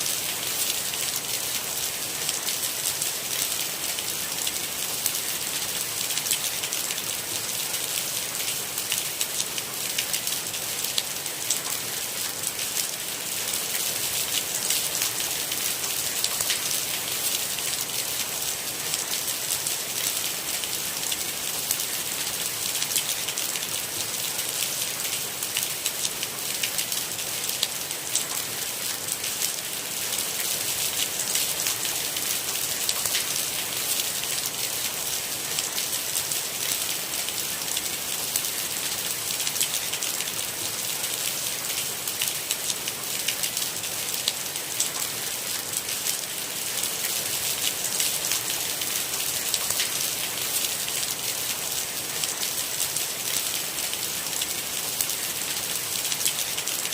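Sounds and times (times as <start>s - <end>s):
rain pattering on surface: 0.0s - 56.9s.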